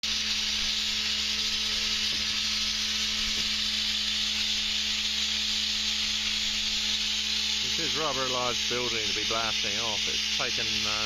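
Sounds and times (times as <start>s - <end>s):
abrasive blasting nozzle hissing: 0.0s - 11.0s.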